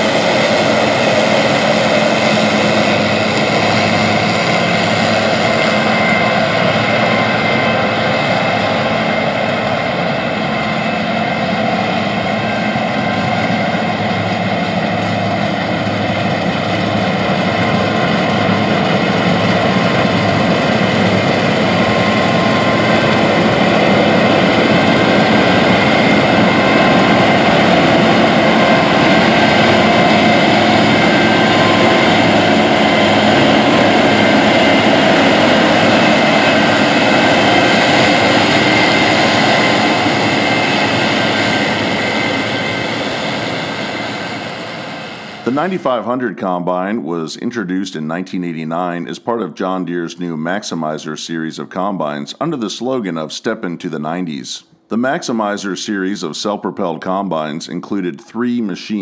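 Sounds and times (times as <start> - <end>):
combine harvester droning: 0.0 - 53.2.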